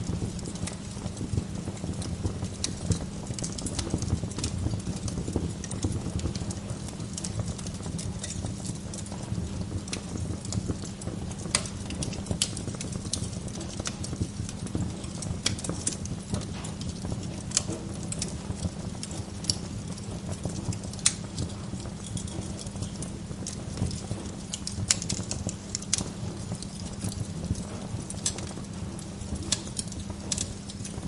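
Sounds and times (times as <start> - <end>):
low fire rumble: 0.0 - 31.0
wood fire crackling: 0.0 - 31.0.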